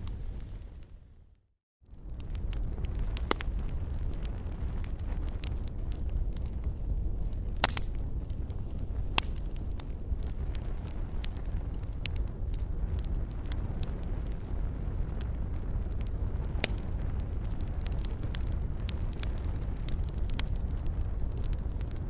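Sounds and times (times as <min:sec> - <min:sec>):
fire crackling and popping: 0:00.0 - 0:22.0
low rumble: 0:01.9 - 0:22.0.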